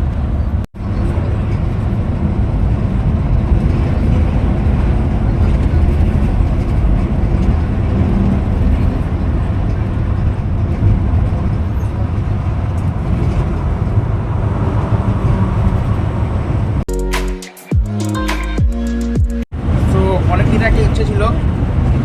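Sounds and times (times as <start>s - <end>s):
bus engine and tyre rumble: 0.0s - 16.9s, 19.5s - 22.0s.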